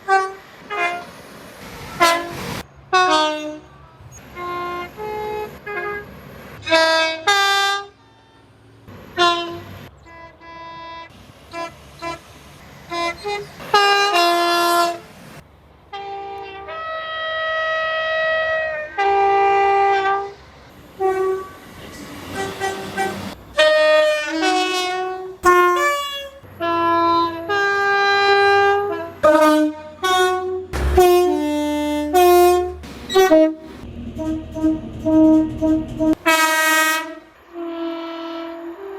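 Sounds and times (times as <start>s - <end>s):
train air horn blasts: 0.0s - 1.1s, 1.9s - 3.6s, 4.3s - 8.5s, 9.2s - 12.2s, 12.9s - 15.0s, 15.9s - 20.4s, 21.0s - 21.6s, 22.3s - 38.9s.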